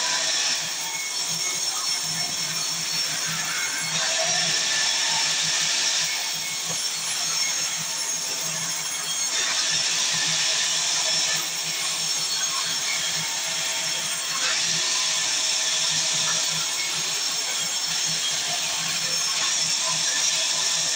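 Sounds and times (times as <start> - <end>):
sawmill saw cutting wood: 0.0 - 20.9.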